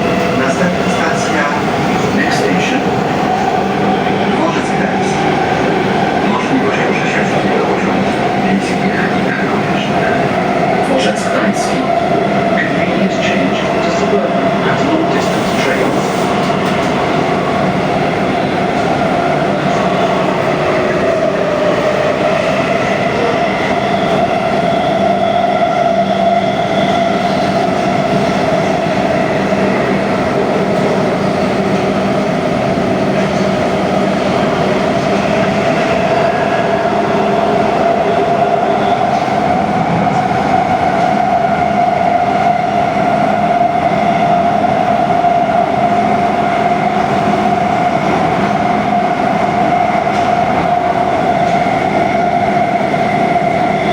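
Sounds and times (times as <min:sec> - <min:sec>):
train whine: 0:00.0 - 0:53.9
wheels rumbling on rail: 0:00.0 - 0:53.9.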